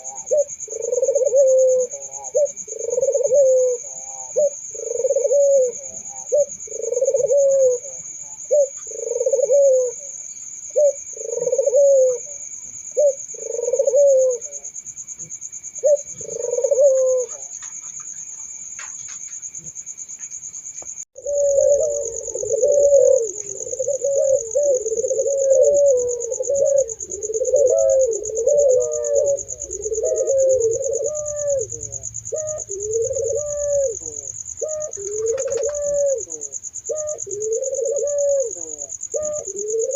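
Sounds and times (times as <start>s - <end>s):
doves cooing: 0.0s - 19.9s, 21.2s - 39.9s.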